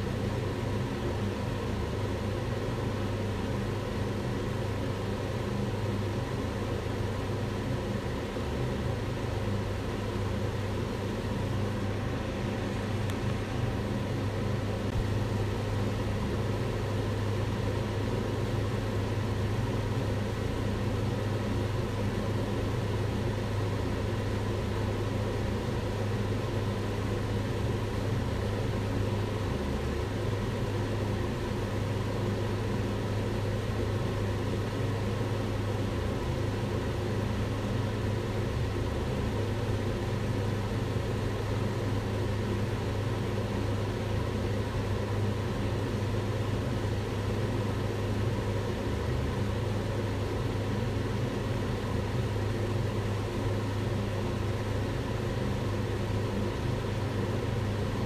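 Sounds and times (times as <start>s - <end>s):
range hood fan air rush: 0.0s - 58.0s.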